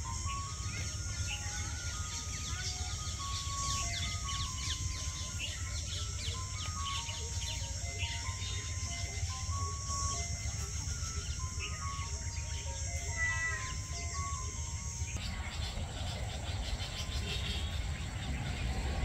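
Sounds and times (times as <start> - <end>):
birds chirping: 0.0 - 19.0
slow background melody: 0.0 - 19.0
steady high hiss: 0.0 - 19.0.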